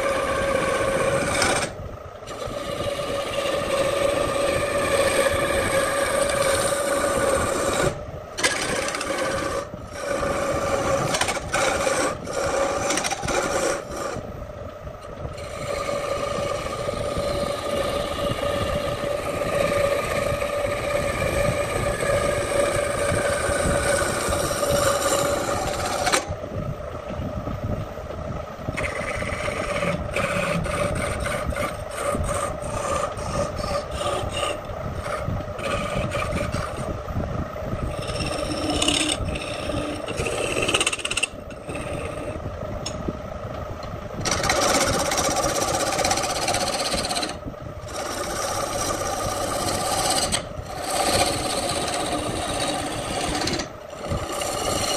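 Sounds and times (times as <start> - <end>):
turning tool scraping wood: 0.0 - 14.3, 15.0 - 26.4, 28.7 - 37.0, 37.7 - 43.0, 44.2 - 54.9
lathe humming: 0.0 - 54.9.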